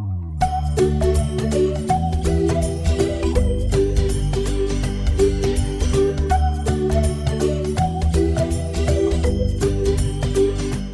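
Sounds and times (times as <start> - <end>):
background music with steady beat: 0.4 - 10.9.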